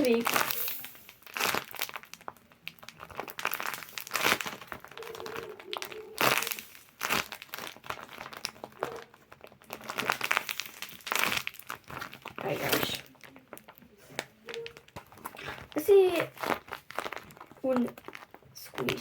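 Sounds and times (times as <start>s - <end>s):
packaging crinkling and rustling: 0.0s - 19.0s.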